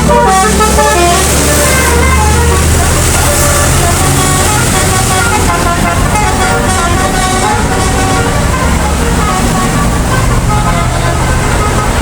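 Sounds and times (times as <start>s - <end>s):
bus engine running: 0.0s - 12.0s
musical air horn melody: 0.0s - 12.0s.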